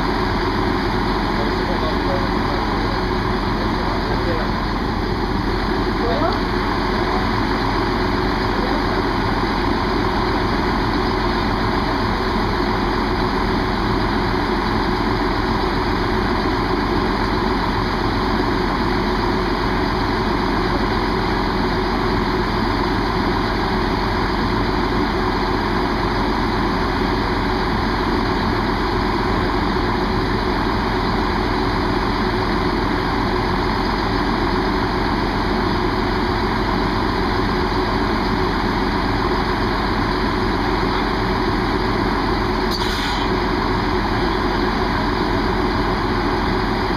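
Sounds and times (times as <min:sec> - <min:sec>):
diesel train engine idling: 0:00.0 - 0:46.9.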